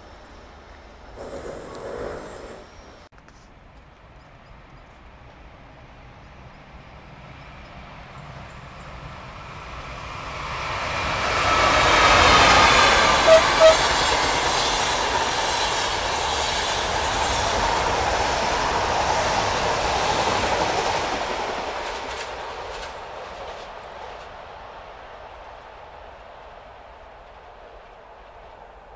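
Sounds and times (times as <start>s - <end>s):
electric train passing: 0.0s - 3.1s, 4.1s - 28.9s.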